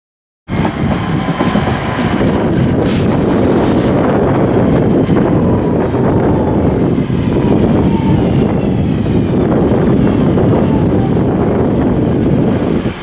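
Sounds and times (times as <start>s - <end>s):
diesel locomotive engine running: 0.5s - 13.0s.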